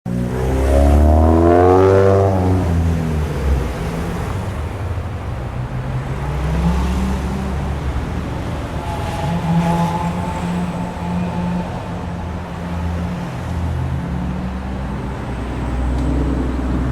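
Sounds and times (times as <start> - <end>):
car engine accelerating: 0.1 - 16.9
second engine: 0.1 - 16.9.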